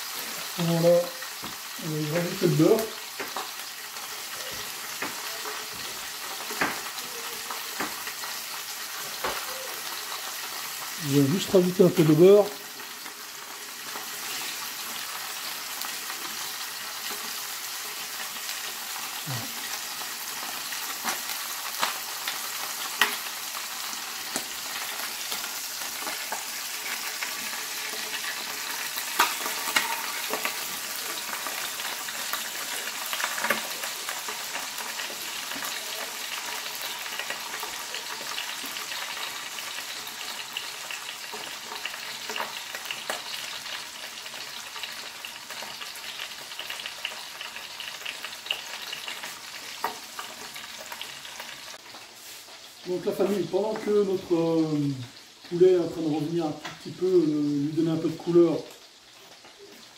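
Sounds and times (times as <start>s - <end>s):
chicken sizzling in butter: 0.0s - 59.9s.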